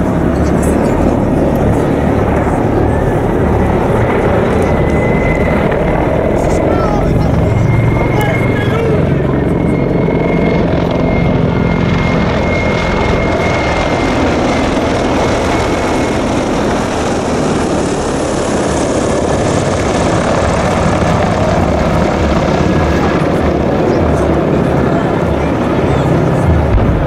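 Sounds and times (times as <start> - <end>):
helicopter engines running loud: 0.0 - 27.0
helicopter rotors chopping: 0.0 - 27.0
high whine: 0.0 - 27.0.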